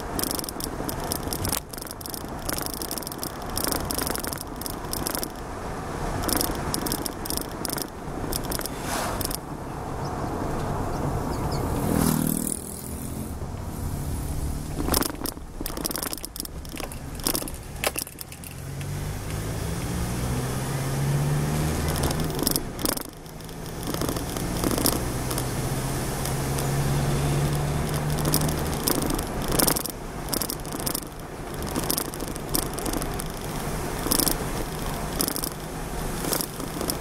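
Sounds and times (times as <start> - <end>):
sharp clicks and knocks: 0.0 - 9.5, 14.6 - 20.0, 21.2 - 37.0
car engine and tyre drone: 0.0 - 37.0.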